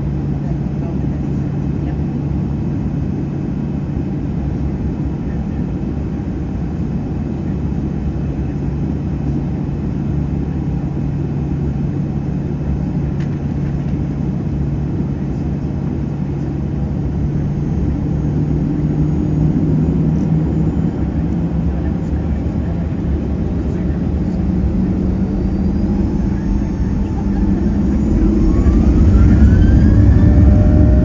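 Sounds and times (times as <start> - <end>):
airplane cabin engine rumble: 0.0 - 31.0.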